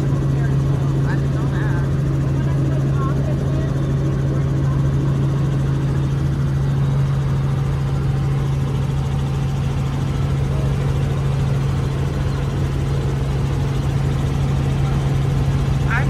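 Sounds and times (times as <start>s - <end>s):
helicopter engine and rotor drone: 0.0s - 16.0s.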